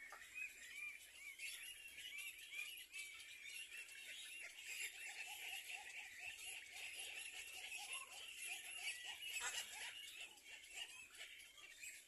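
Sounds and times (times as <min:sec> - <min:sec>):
birds chirping rapidly: 0:00.0 - 0:12.0.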